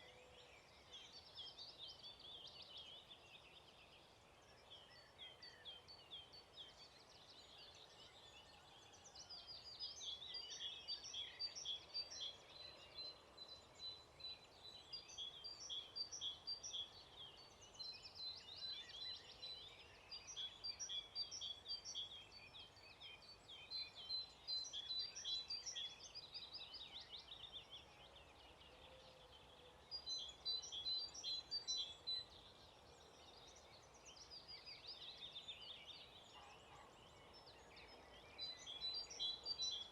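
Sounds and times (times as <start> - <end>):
faint outdoor hiss: 0.0 - 39.9
songbirds singing: 0.0 - 39.9.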